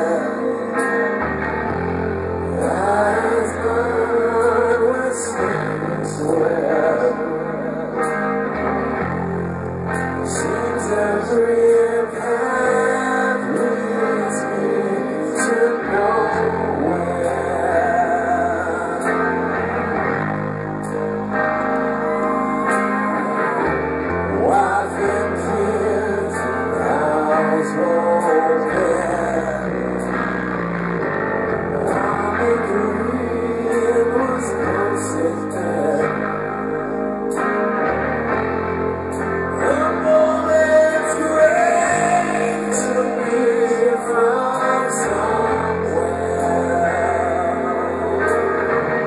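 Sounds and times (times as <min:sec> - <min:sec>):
man singing lead vocals: 0:00.0 - 0:38.5, 0:39.2 - 0:49.0
live rock band playing: 0:00.0 - 0:49.0.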